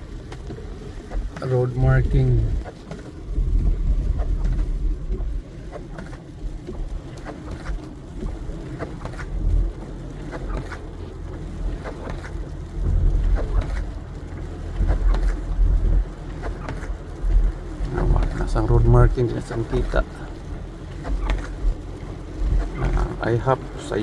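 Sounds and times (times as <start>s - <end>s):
car cabin road rumble: 0.0s - 24.0s
faint clicks and ticks: 0.1s - 24.0s.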